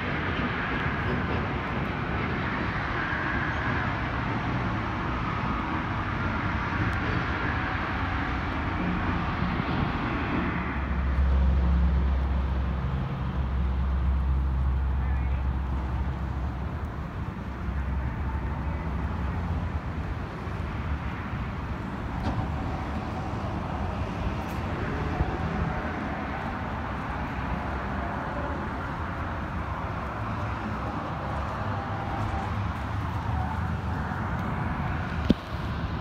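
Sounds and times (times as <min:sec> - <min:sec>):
road traffic: 0:00.0 - 0:36.0.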